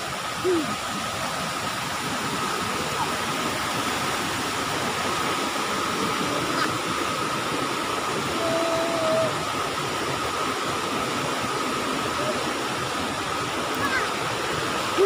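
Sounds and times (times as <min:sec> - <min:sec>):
stream rushing over boulders: 0:00.0 - 0:15.0.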